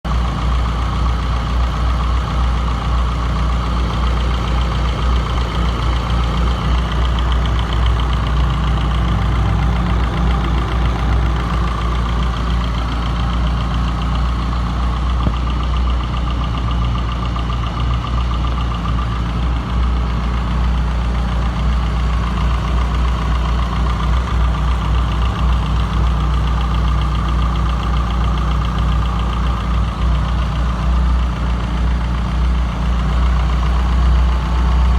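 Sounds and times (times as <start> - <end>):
car engine idling: 0.1 - 34.9
fast even engine ticking: 0.1 - 34.9.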